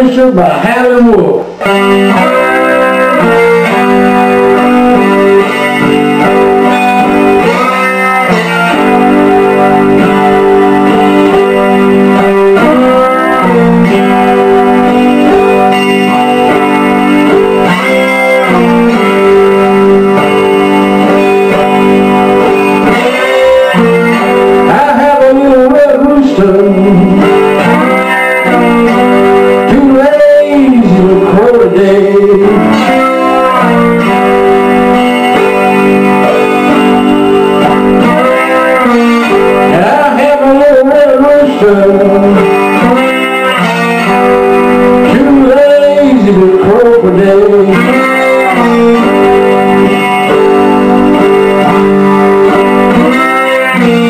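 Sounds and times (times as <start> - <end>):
slide electric guitar blues: 0.0 - 54.0.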